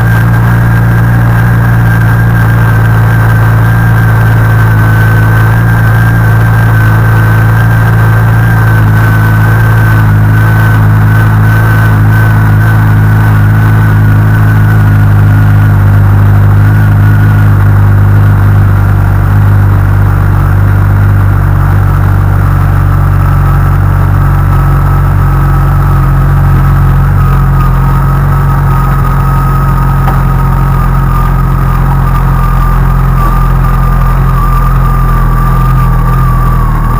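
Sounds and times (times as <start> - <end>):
high-pitched whine: 0.0 - 36.9
motorcycle engine idling: 0.0 - 36.9.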